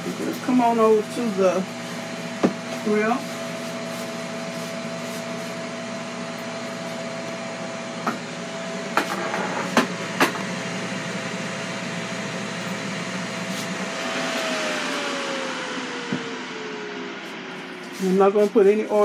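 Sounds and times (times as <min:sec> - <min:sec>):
grill fan humming: 0:00.0 - 0:19.0.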